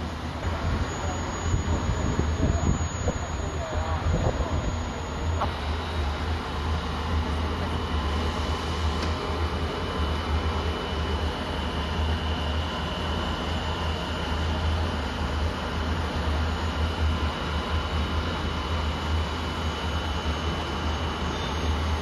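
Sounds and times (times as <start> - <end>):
high whine: 0.0 - 22.0
machinery hum with fan noise: 0.0 - 22.0.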